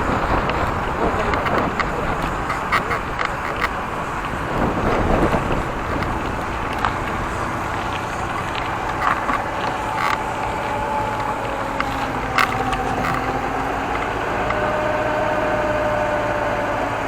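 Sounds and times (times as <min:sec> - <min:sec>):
road and traffic noise: 0:00.0 - 0:17.0
vehicle engine hum: 0:00.0 - 0:17.0
wind buffeting microphone: 0:00.0 - 0:17.0
light clicks: 0:00.4 - 0:14.7.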